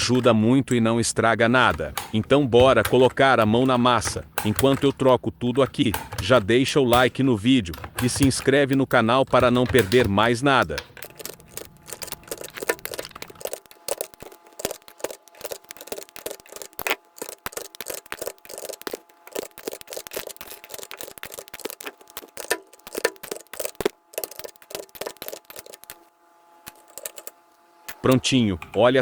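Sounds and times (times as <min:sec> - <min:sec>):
keyboard keycaps clicking and snapping: 0:00.0 - 0:26.1, 0:26.7 - 0:27.4.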